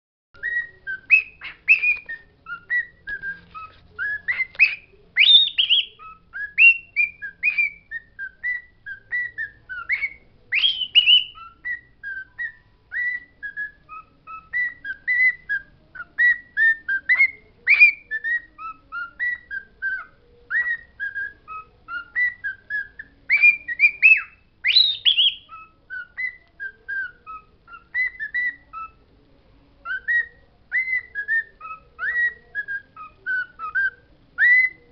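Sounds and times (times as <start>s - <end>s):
pet bird chirping: 0.4s - 29.2s, 29.8s - 34.9s.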